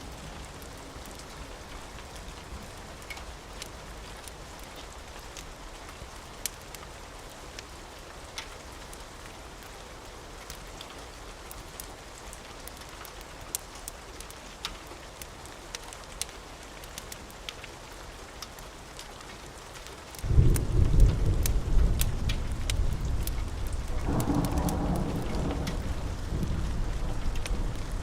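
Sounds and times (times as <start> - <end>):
steady rain: 0.0 - 28.0
wood fire popping and crackling: 0.1 - 28.0.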